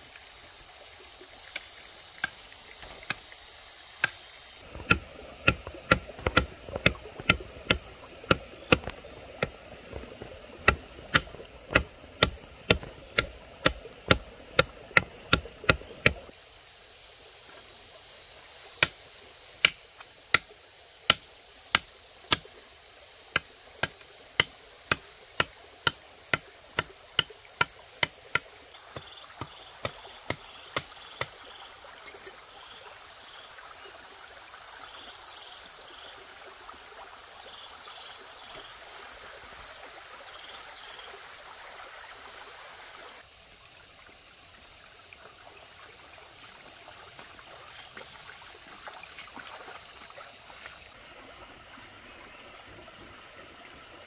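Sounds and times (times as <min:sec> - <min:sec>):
faint insect chirping: 0:00.0 - 0:54.0
stream water rushing: 0:00.0 - 0:54.0.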